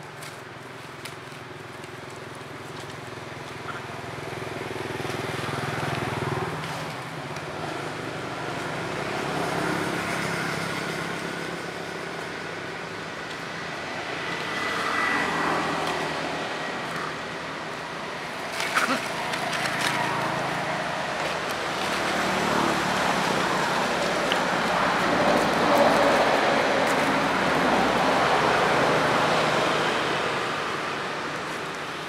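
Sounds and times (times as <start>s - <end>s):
passing road vehicles: 0.0s - 32.0s.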